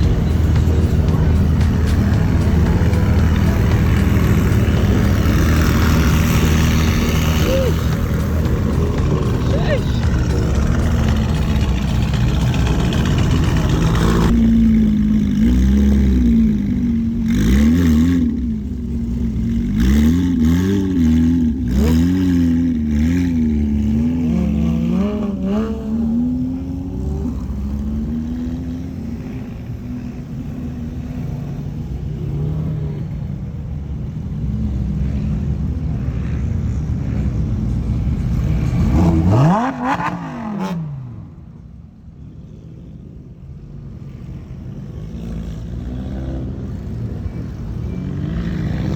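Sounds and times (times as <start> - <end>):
car engine revving: 0.0 - 41.5.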